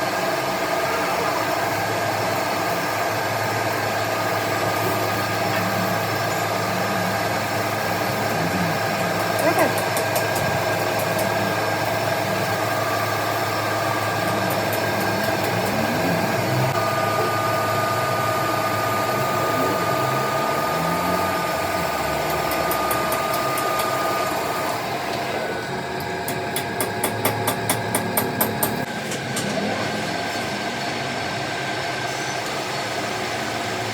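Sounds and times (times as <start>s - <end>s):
machinery running with whine: 0.0s - 33.9s.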